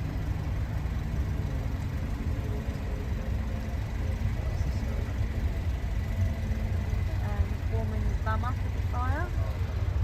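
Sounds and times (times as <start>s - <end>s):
car engine rumble from inside: 0.0s - 10.0s.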